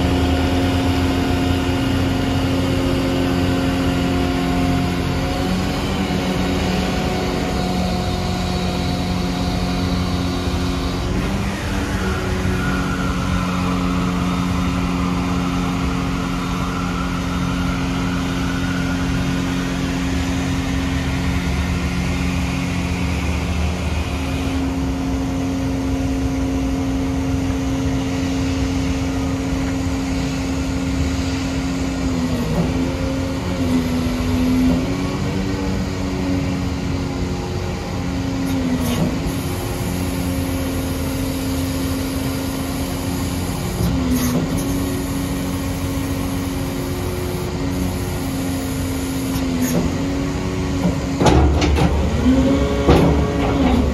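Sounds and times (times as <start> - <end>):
faint rising hydraulic whine: 0.0 - 53.9.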